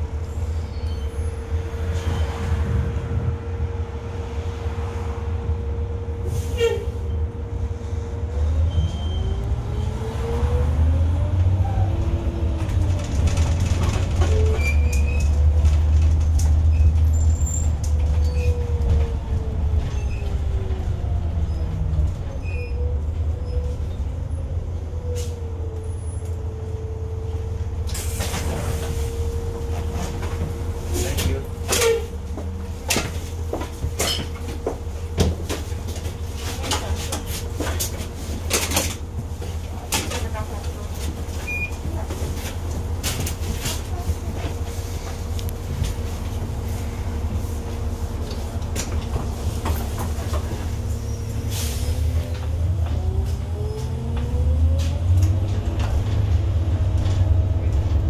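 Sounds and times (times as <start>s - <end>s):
bus engine rumble and whine: 0.0s - 58.0s.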